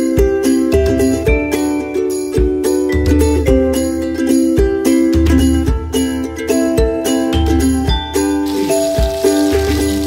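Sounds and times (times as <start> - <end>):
music with held notes and beat: 0.0 - 10.0.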